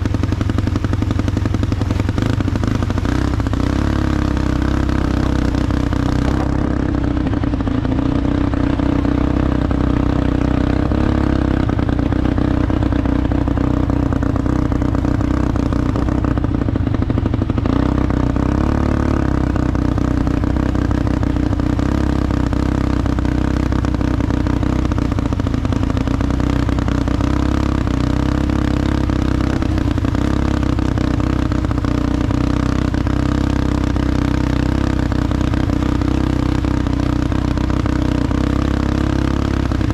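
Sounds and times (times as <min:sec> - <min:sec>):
atv engine rattling: 0:00.0 - 0:39.9.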